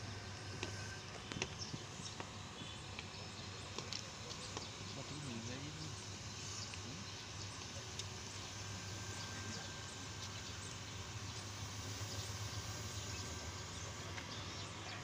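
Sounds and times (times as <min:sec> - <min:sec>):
light hiss: 0:00.0 - 0:15.0
steady low hum: 0:00.0 - 0:15.0.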